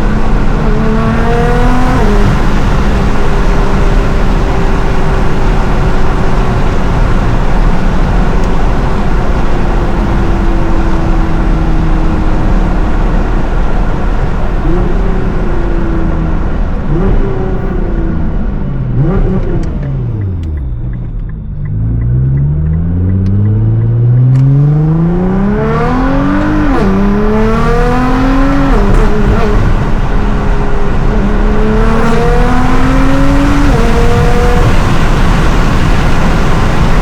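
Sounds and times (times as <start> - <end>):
car engine revving: 0.0 - 37.0
road rumble inside car: 0.0 - 37.0.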